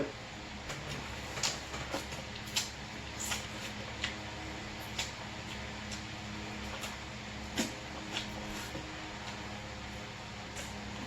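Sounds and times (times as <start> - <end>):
steady low hum: 0.0 - 11.0
chewing corn on the cob: 0.8 - 11.0.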